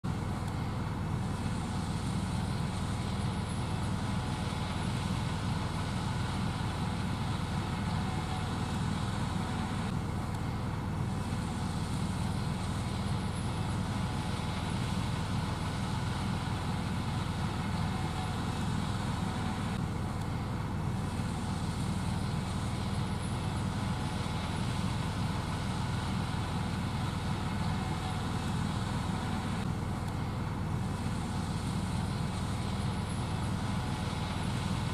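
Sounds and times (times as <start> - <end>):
combine harvester droning: 0.0 - 34.9.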